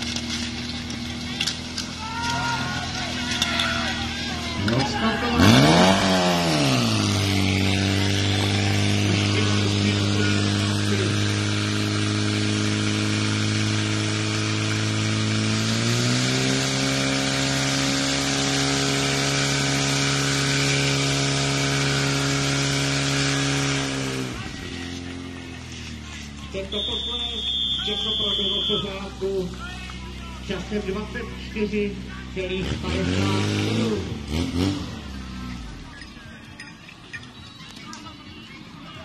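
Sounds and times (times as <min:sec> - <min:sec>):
pump engine running at high revs: 0:00.0 - 0:36.0.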